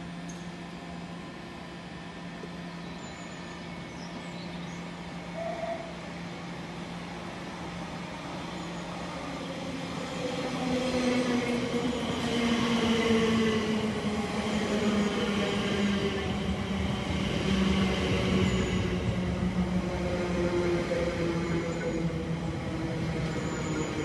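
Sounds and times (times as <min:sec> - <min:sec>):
train approaching with whine: 0:00.0 - 0:24.0.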